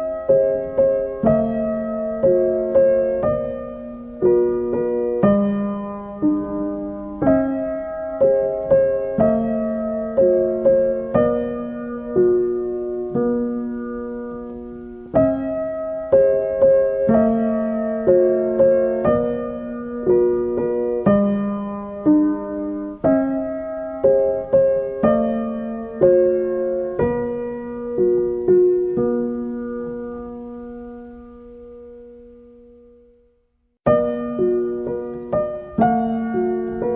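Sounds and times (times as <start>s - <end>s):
slow gentle piano music: 0.0s - 36.9s.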